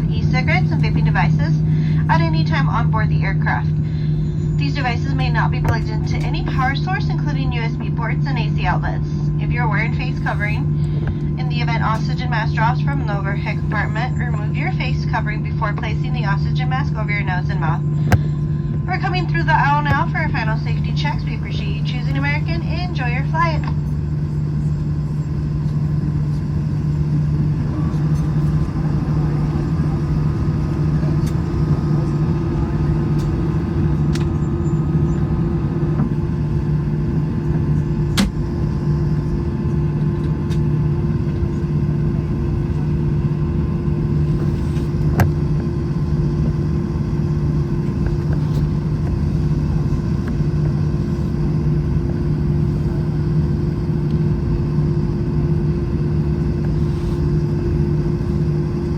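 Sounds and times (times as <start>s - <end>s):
airplane cabin drone: 0.0s - 58.9s.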